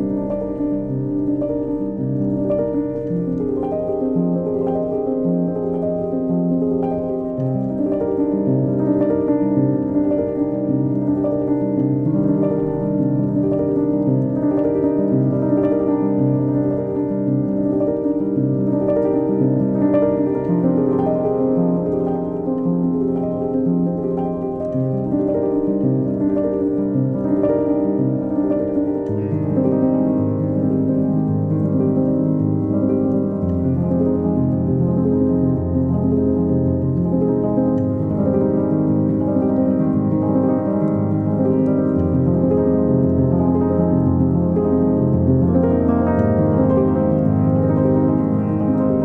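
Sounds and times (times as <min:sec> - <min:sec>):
calm piano piece: 0:00.0 - 0:49.0.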